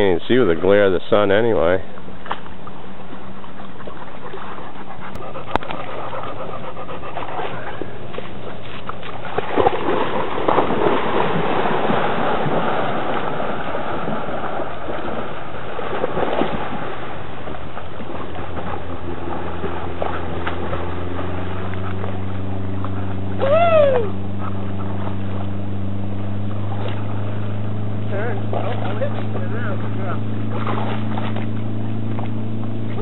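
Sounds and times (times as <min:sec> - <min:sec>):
motorboat engine drone: 0:00.0 - 0:33.0
swimmers splashing in water: 0:02.1 - 0:33.0.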